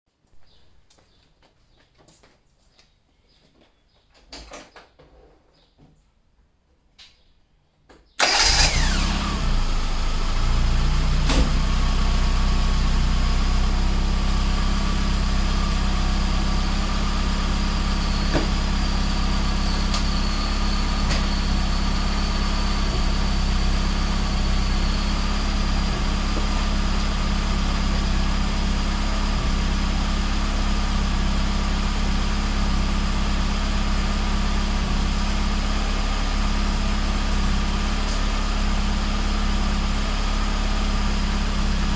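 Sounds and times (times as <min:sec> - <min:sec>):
car engine starting and idling: 0:08.2 - 0:41.9.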